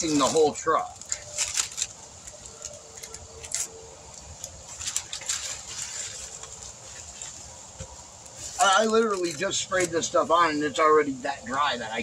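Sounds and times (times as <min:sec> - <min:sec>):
paper and tape crackling: 0:00.0 - 0:10.6.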